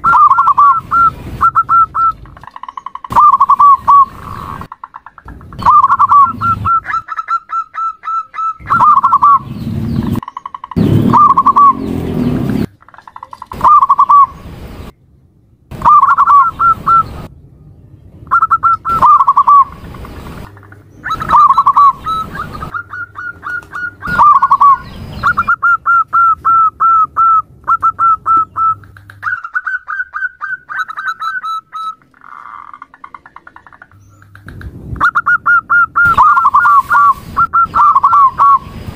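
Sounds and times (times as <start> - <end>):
dove cooing: 0.0 - 4.7, 5.6 - 12.7, 13.5 - 14.4, 15.7 - 17.3, 18.3 - 38.7
fast clipped bird notes: 0.0 - 14.4, 18.3 - 27.1, 27.7 - 38.9.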